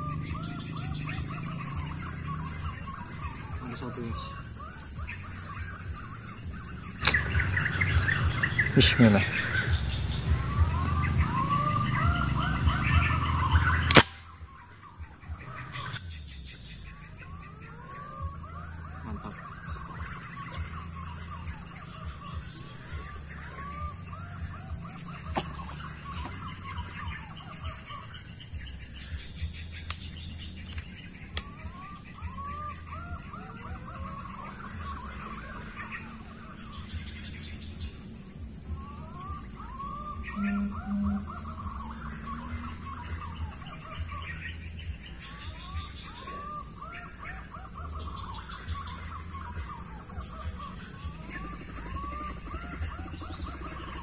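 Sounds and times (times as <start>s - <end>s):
birds chirping: 0.0s - 54.0s
steady high-pitched hum: 0.0s - 54.0s.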